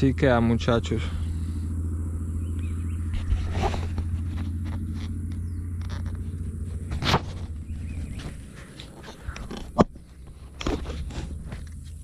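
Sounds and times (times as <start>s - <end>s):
motor humming: 1.0s - 12.0s.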